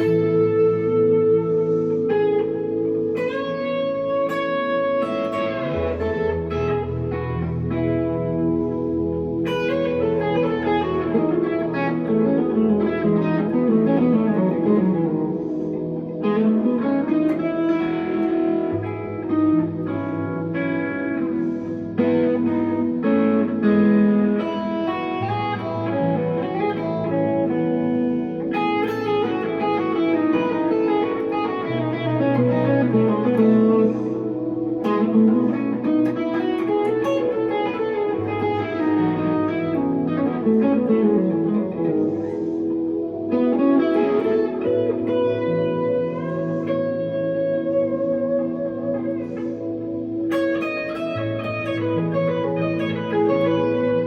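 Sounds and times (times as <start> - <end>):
electric guitar melody: 0.0 - 54.0.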